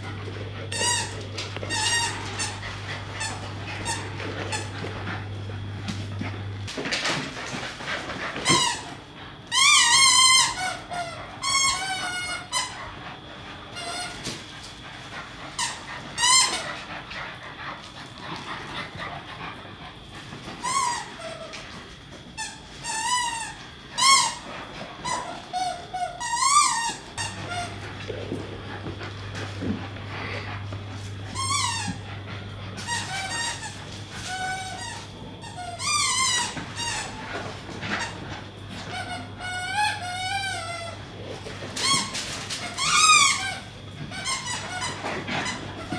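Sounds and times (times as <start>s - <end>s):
dogs squealing: 0.0s - 5.7s, 8.2s - 13.0s, 13.7s - 14.4s, 15.4s - 19.5s, 20.5s - 21.8s, 22.4s - 28.2s, 28.8s - 45.9s
steady low hum: 0.0s - 45.9s.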